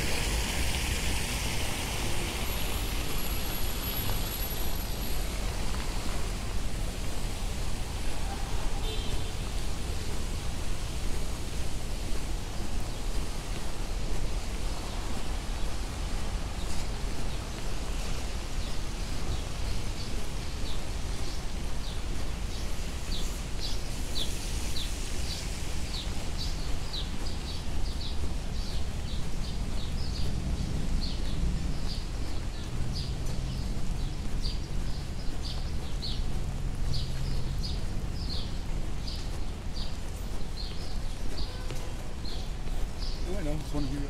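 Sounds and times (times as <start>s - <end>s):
low rumble of city noise: 0.0s - 44.0s.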